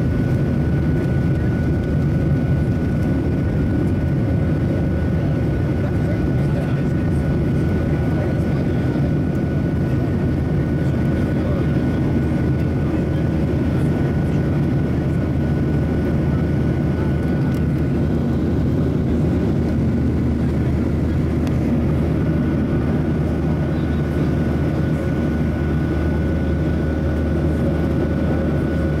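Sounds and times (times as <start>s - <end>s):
airplane engine and airflow noise: 0.0s - 29.0s.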